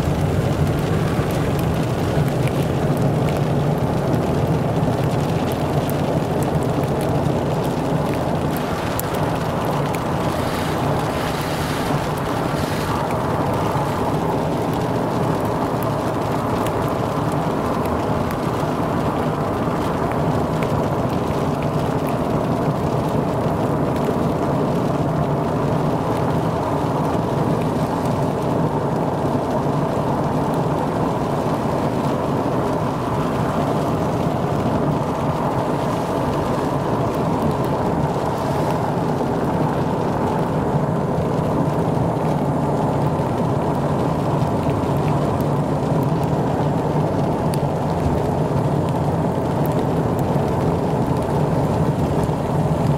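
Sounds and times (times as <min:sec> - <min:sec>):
vehicle road and engine noise: 0:00.0 - 0:52.9.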